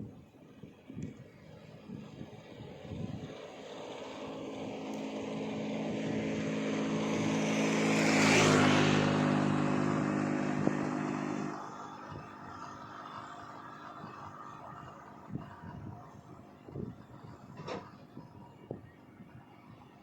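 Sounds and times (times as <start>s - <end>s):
motor engine passing by: 2.0s - 18.4s.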